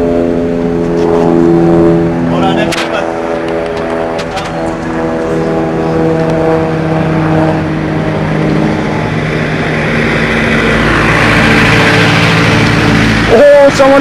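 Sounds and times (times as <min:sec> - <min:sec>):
rushing road noise: 0:00.0 - 0:14.0
car engine running: 0:02.0 - 0:14.0.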